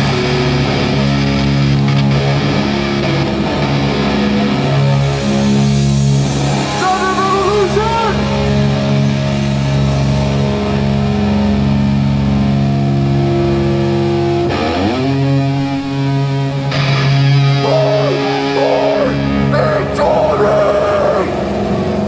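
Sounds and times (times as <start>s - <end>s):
distorted electric guitars: 0.0s - 22.0s
hardcore band playing: 0.0s - 22.0s.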